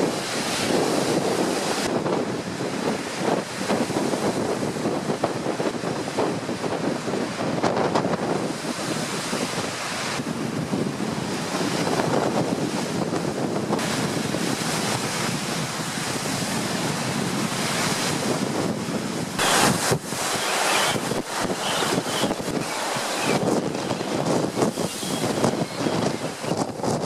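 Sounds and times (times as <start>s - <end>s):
waves splashing against a wall: 0.0s - 27.0s
wind gusting across microphone: 0.0s - 27.0s.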